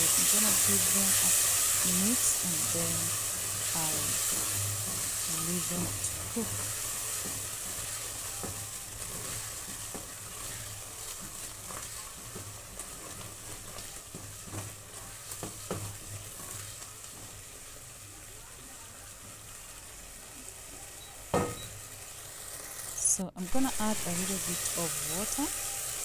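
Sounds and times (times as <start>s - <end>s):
food sizzling in a frying pan: 0.0s - 26.0s.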